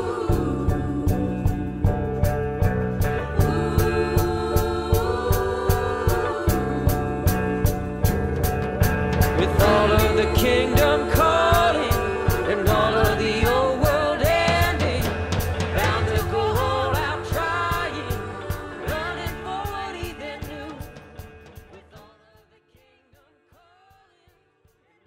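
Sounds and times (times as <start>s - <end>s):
gospel song with singing voices: 0.0s - 24.4s.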